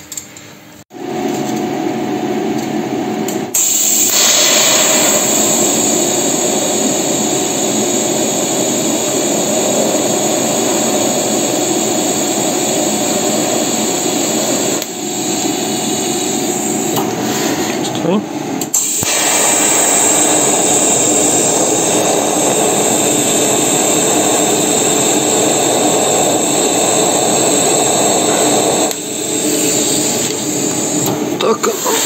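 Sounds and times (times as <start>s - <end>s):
arc welding hiss: 3.6s - 17.0s, 18.7s - 32.0s.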